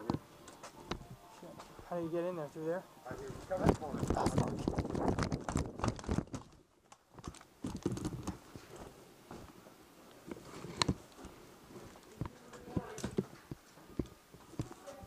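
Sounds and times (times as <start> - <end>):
footsteps and gear clicking: 0.0 - 1.8, 3.2 - 9.6, 10.2 - 15.0.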